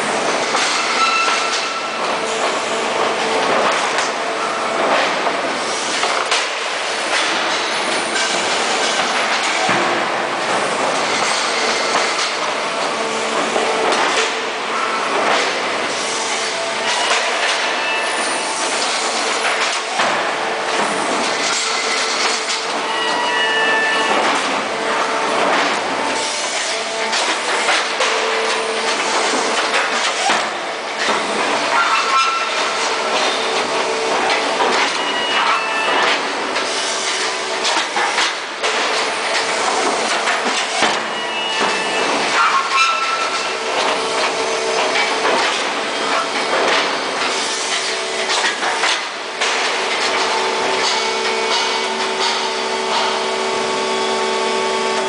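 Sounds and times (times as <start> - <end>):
machine motors humming: 0.0 - 55.0.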